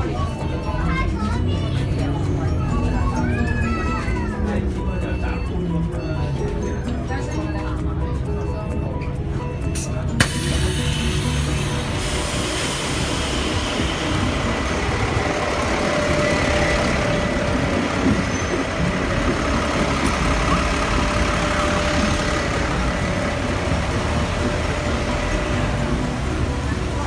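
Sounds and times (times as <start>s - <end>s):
bus engine running: 0.0s - 27.0s
roadside traffic noise: 0.0s - 27.0s.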